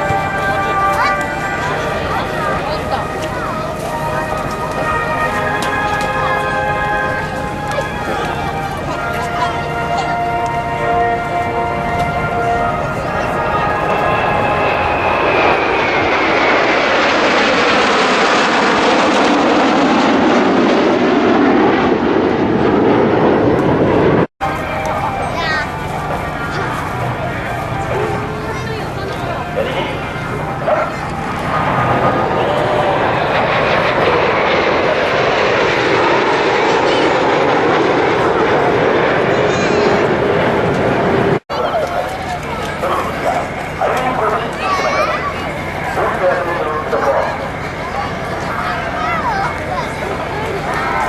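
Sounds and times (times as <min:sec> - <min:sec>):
crowd voices: 0:00.0 - 0:51.0
jet aircraft flying past: 0:00.0 - 0:51.0
jet engine whine: 0:00.0 - 0:51.0.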